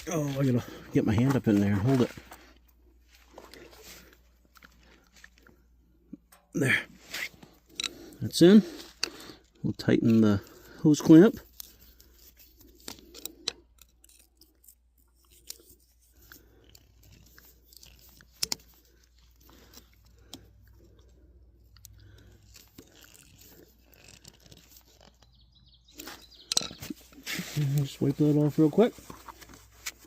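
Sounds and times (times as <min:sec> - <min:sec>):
hose clamp clicks and scrapes: 0:03.4 - 0:30.0.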